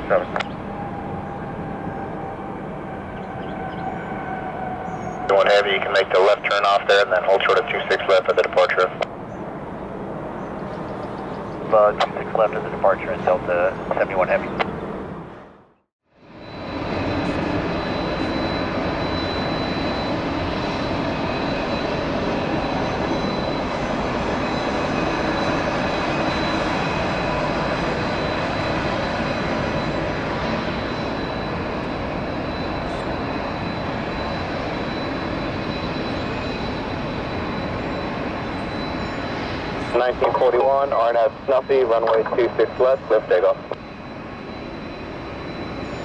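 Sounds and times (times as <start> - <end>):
jet engines rushing: 0.0 - 46.0.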